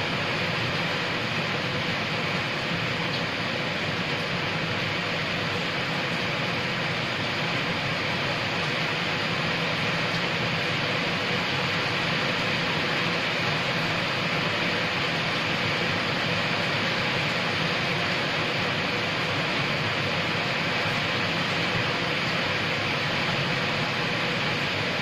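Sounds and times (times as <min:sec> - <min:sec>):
steady rain on paving and leaves: 0:00.0 - 0:25.0.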